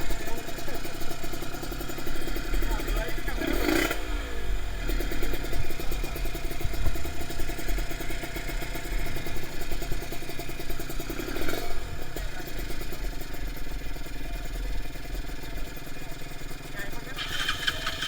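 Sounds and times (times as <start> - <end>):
two-stroke engine idling: 0.0 - 18.0.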